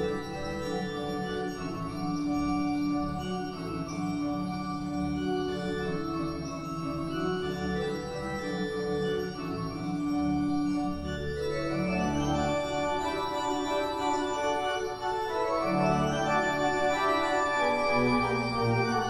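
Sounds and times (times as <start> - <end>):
pipe organ playing chords: 0.0 - 19.0.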